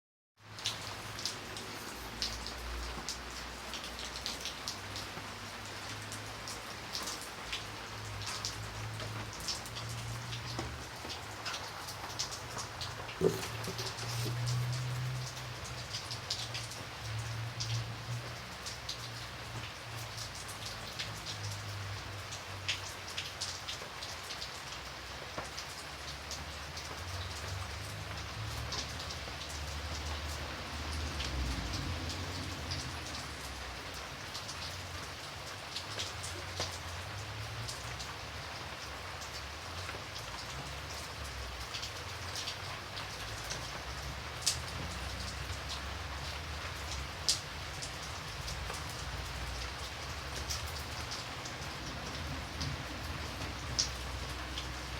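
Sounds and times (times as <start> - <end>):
rain drops ticking on surface: 0.4 - 54.9
rain hiss: 0.4 - 54.9.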